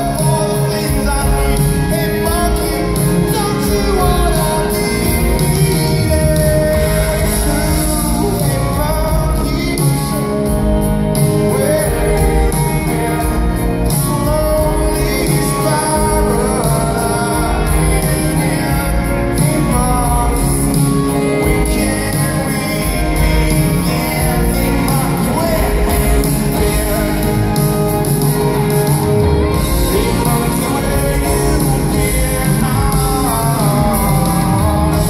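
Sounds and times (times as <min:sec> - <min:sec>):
man singing lead vocal: 0:00.0 - 0:35.0
rock band playing live: 0:00.0 - 0:35.0.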